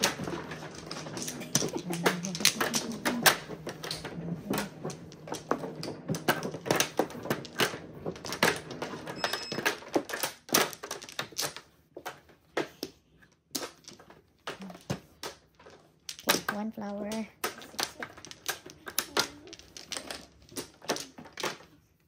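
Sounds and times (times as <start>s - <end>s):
mahjong tiles clacking: 0.0s - 22.0s.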